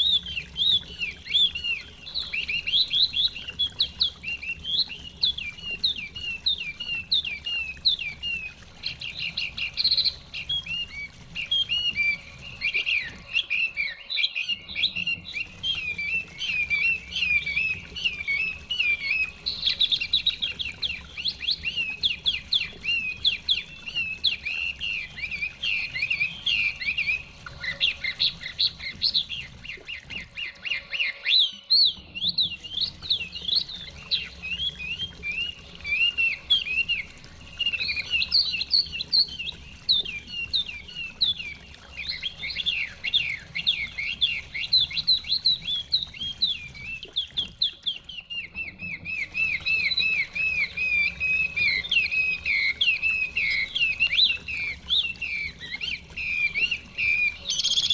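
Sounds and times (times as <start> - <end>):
bird warbling song: 0.0 - 57.9.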